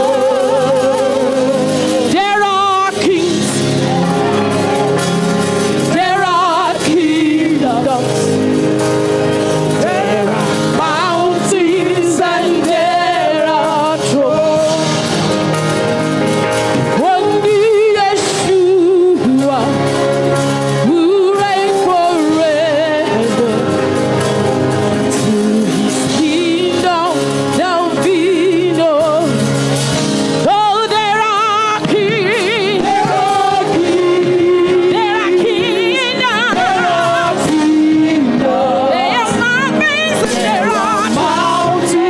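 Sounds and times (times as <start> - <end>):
band playing held chords: 0.0 - 42.0
person singing with vibrato: 0.0 - 42.0.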